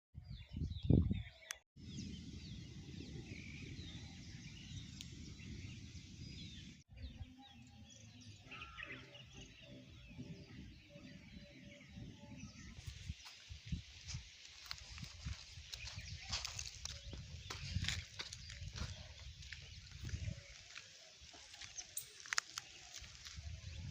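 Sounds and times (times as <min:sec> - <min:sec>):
wind buffeting microphone: 0:00.2 - 0:23.9
small birds chirping: 0:00.4 - 0:23.9.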